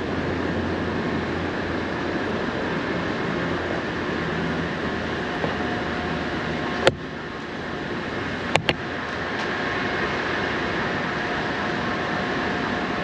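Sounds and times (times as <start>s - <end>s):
city traffic rumble: 0.0s - 13.0s
construction machinery: 0.0s - 13.0s.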